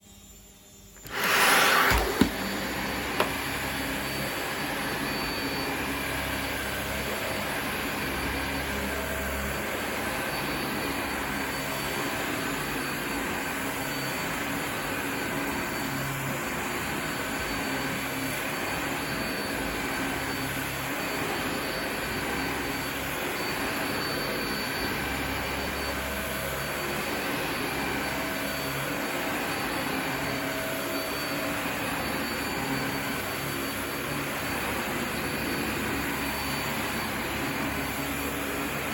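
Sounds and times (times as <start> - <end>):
vacuum cleaner running: 0.9 - 38.9.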